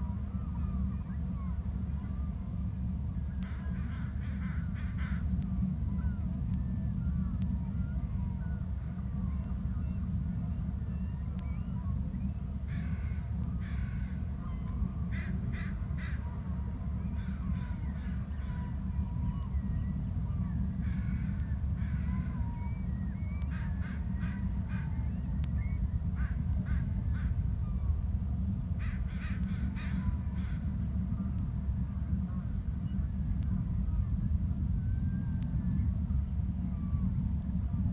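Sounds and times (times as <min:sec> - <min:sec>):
low rumble: 0:00.0 - 0:37.9.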